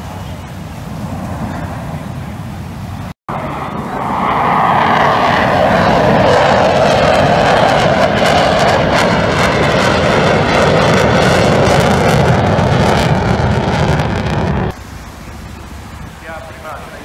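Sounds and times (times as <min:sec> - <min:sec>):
fighter jet flying past: 0:00.0 - 0:14.8.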